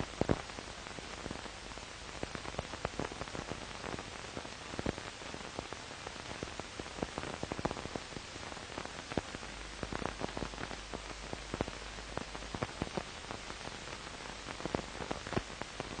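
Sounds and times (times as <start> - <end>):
film surface hiss and crackles: 0.0 - 16.0.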